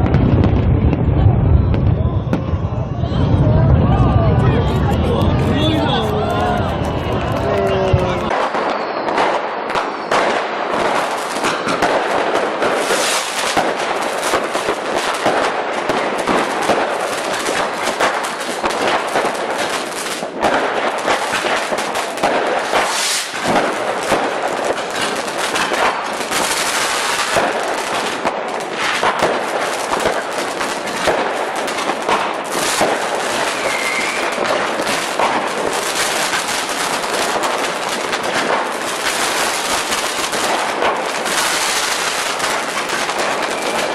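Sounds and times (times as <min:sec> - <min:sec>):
firecrackers crackling: 0:00.0 - 0:43.9.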